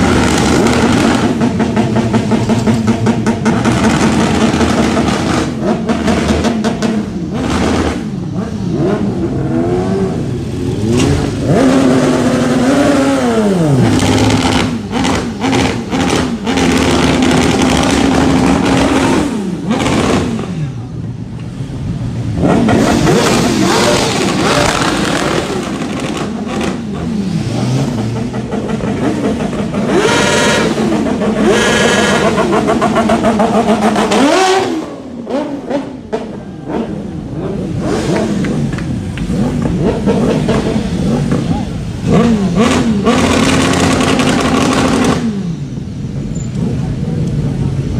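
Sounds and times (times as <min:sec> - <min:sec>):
motorcycle engine revving: 0:00.0 - 0:20.9, 0:22.2 - 0:47.9.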